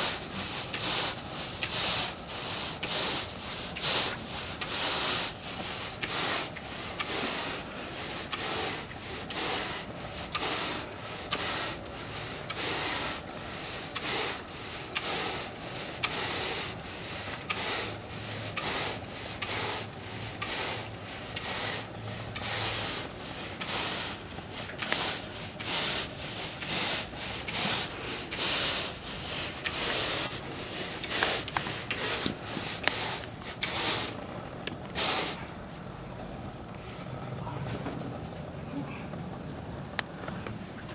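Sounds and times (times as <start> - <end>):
push broom scrubbing turf: 0.0 - 35.5.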